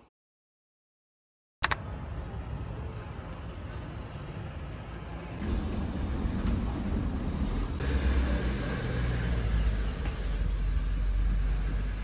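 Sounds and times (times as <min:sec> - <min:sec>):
road noise: 0:01.6 - 0:12.0
vehicle engine rumble: 0:01.7 - 0:12.0.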